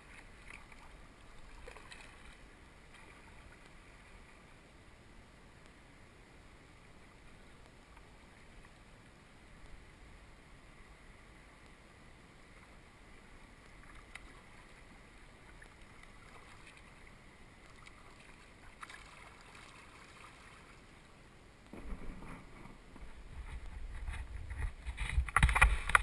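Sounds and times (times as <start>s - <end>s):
faint water noise: 0.0s - 26.0s.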